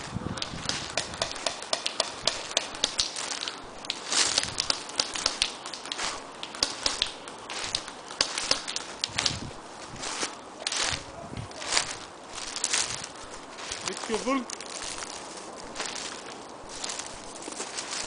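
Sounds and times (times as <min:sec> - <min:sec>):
footsteps crunching dry leaves: 0:00.0 - 0:18.0
leaves rustling: 0:00.0 - 0:18.0.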